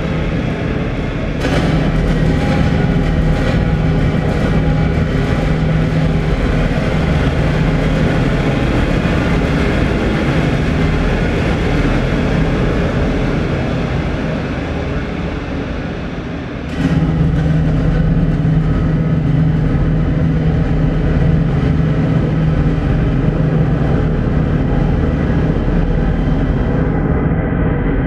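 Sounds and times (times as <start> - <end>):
dense drone with low hum: 0.0 - 28.0.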